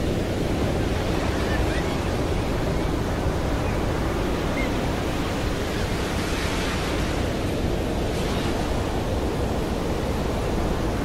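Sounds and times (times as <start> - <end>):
waves breaking on shore: 0.0 - 11.0.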